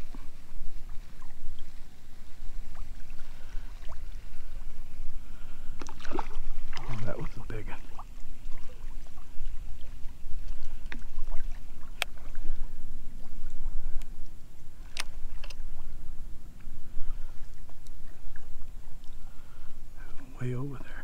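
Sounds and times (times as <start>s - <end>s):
water and hull rumble: 0.0s - 21.0s.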